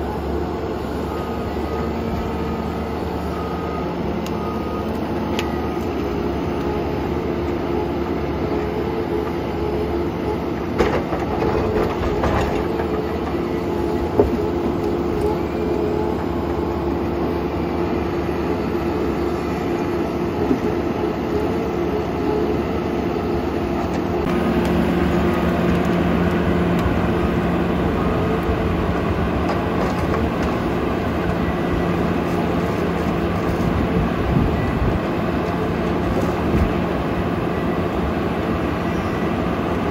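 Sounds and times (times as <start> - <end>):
diesel engine and hydraulics running: 0.0 - 39.9
harvester head processing tree: 0.0 - 39.9.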